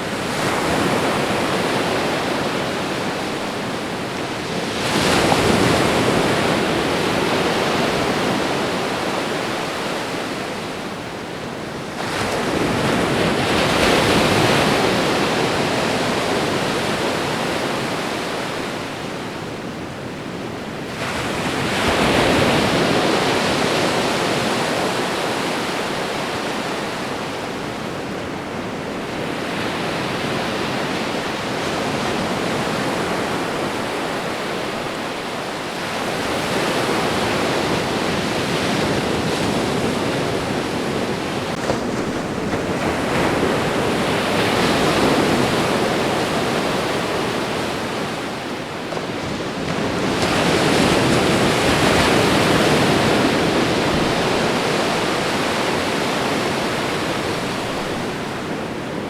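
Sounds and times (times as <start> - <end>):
ocean waves washing ashore: 0.0 - 59.0.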